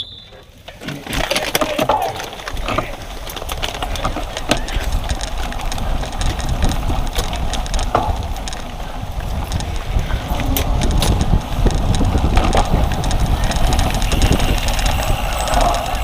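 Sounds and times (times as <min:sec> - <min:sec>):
bike rattles and clicks: 0:00.0 - 0:16.0
wind buffeting microphone: 0:01.1 - 0:16.0.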